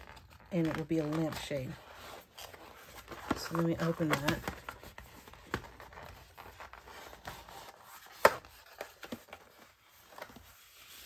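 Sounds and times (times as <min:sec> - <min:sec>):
cardboard rustling: 0:00.0 - 0:11.0.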